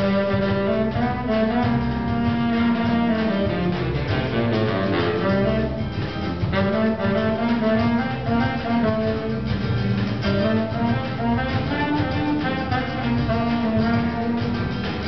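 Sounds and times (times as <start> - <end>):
baritone saxophone: 0.0 - 15.0
clarinet: 0.0 - 15.0
drum kit: 0.0 - 15.0
guitars: 0.0 - 15.0.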